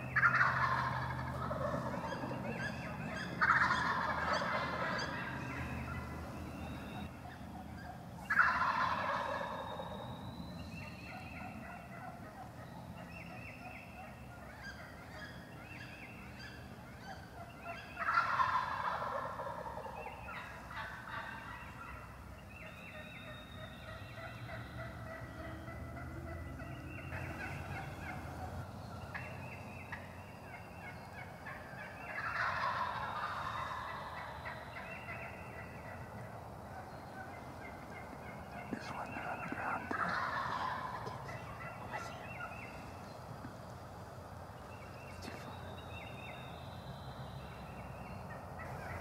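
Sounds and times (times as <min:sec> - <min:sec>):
turkey gobbling: 0:00.0 - 0:10.1, 0:10.8 - 0:43.6, 0:48.0 - 0:49.0.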